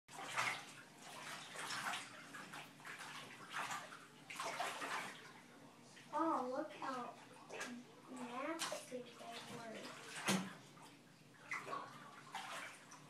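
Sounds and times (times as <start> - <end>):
bathwater sloshing and splashing: 0.1 - 13.0.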